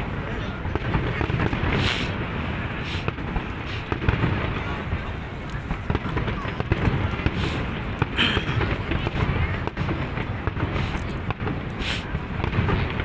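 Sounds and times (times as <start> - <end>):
firework shells bursting: 0.7 - 13.0.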